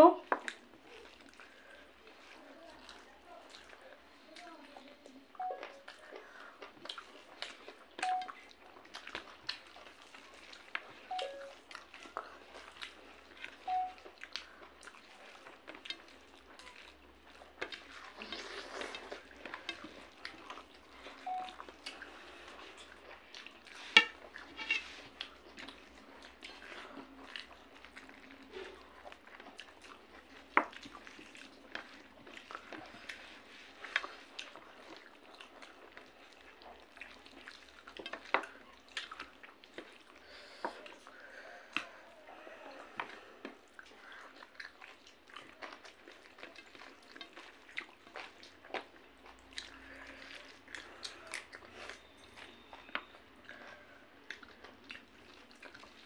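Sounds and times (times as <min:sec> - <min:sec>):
chewing and wet mouth smacks: 0:00.2 - 0:56.0.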